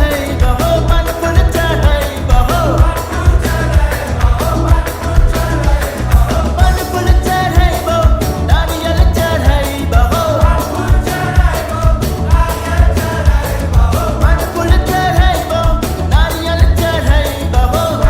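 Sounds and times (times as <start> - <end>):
person singing: 0.0 - 18.0
pop music with heavy bass and drums: 0.0 - 18.0.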